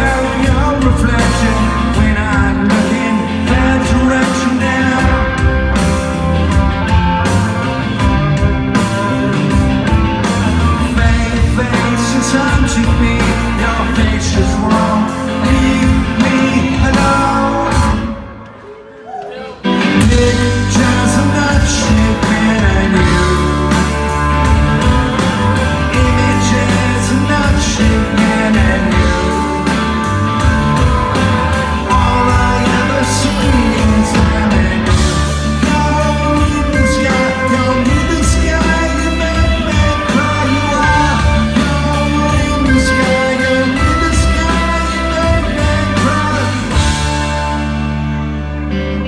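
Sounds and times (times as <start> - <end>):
rock band playing live: 0.0 - 49.0.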